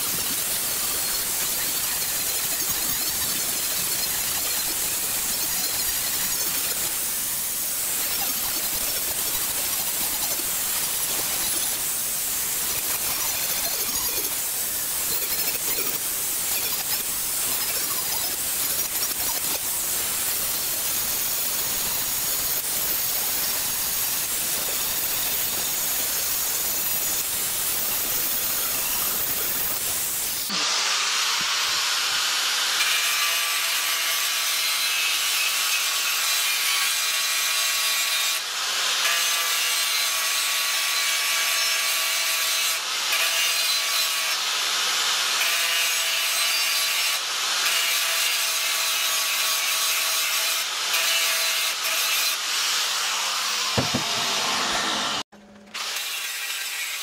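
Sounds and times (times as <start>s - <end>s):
angle grinder grinding metal: 0.0s - 57.0s.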